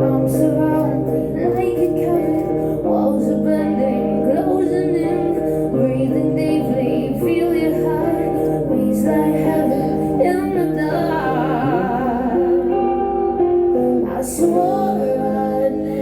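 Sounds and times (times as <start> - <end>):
sustained guitar chords: 0.0 - 16.0
woman singing: 0.0 - 16.0.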